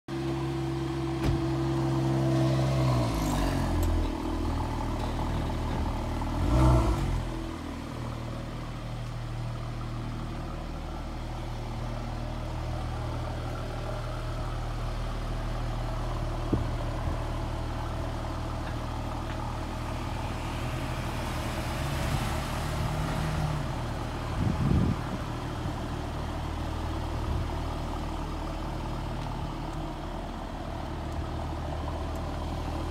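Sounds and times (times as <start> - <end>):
car engine idling and revving: 0.1 - 32.9.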